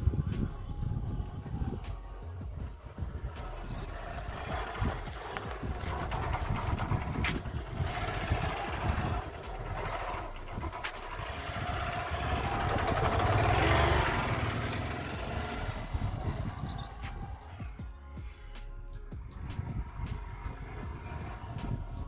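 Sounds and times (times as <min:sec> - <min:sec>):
motorcycle engine riding off: 0:00.0 - 0:17.9, 0:19.1 - 0:22.0.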